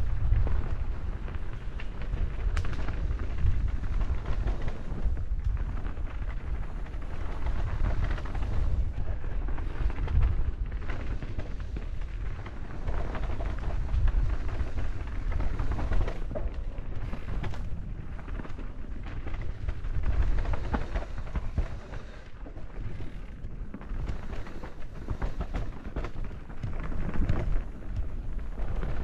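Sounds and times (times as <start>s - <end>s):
bike rattling and knocking: 0.0s - 29.0s
bike tyres rumbling on dirt: 0.0s - 29.0s
wind buffeting microphone: 0.0s - 29.0s.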